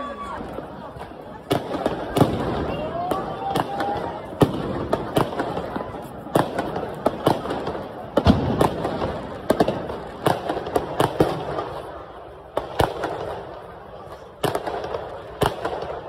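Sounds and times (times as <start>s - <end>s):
fireworks bangs: 0.0s - 16.0s
fireworks crackle: 0.0s - 16.0s.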